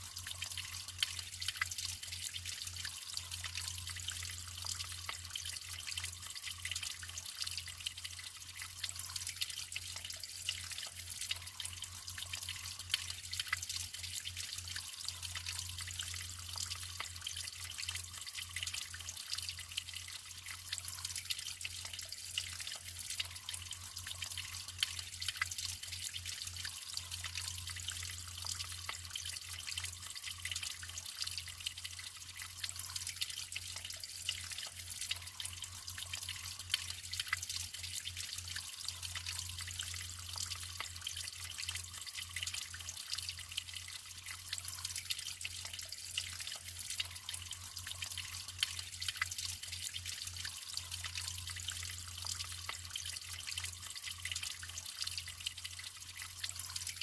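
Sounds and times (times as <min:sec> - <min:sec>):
water drips and splashes: 0:00.0 - 0:57.0
water trickling: 0:00.0 - 0:57.0.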